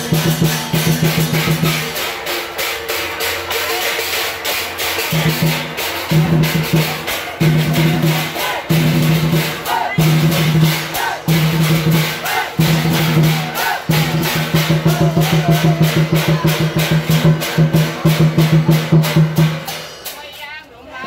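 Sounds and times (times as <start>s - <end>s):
drums and cymbals beat: 0.0s - 20.5s.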